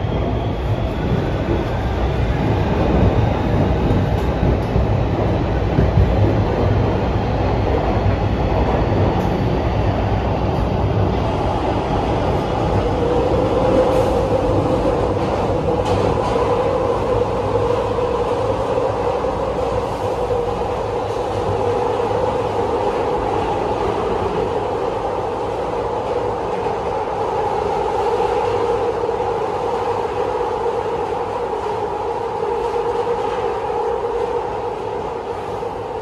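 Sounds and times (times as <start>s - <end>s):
subway wheels rumbling on rail: 0.0s - 36.0s.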